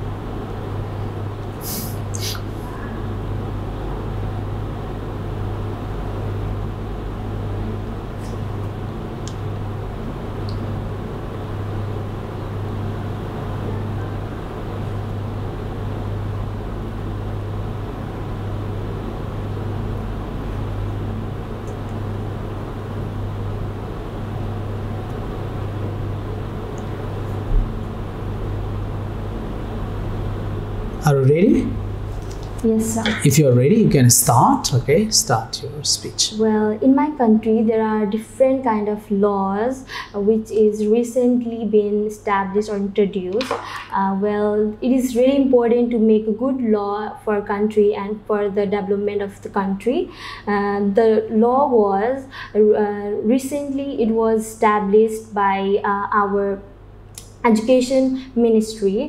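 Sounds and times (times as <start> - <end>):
low hum with hiss: 0.0 - 59.0.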